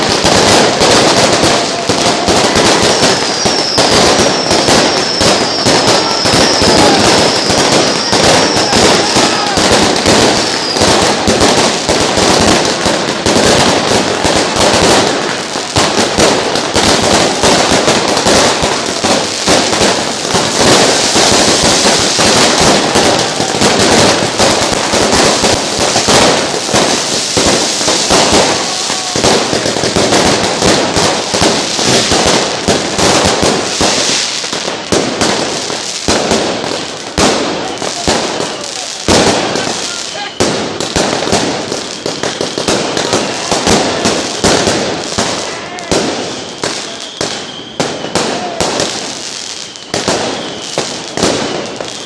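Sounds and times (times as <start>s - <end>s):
fireworks and firecrackers banging: 0.0s - 52.0s.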